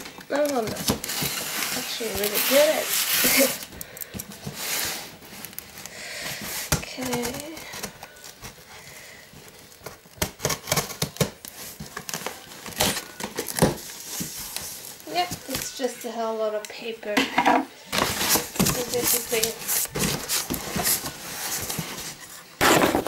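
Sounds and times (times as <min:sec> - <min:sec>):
packing paper crinkling: 0:00.0 - 0:16.1, 0:17.8 - 0:22.7.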